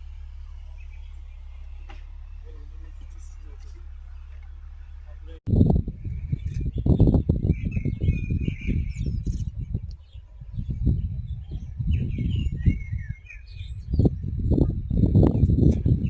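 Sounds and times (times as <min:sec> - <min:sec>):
low rumble: 0:00.0 - 0:16.0
small birds chirping: 0:00.0 - 0:16.0.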